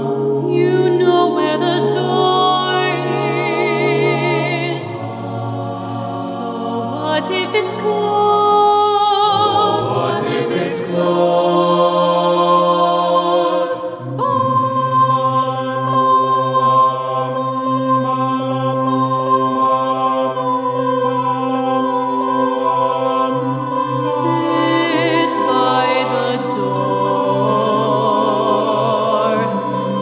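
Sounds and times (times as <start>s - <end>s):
choir singing sustained chords: 0.0s - 30.0s.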